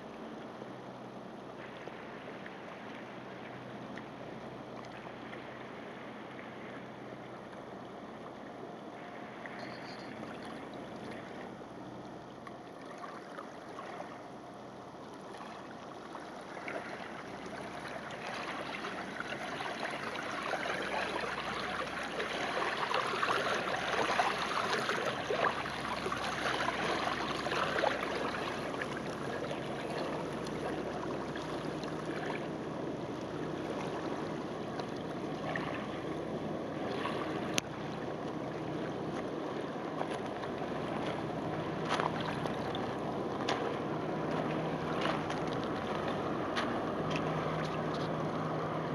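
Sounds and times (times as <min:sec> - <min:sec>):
water lapping on stony shore: 0:01.6 - 0:48.9.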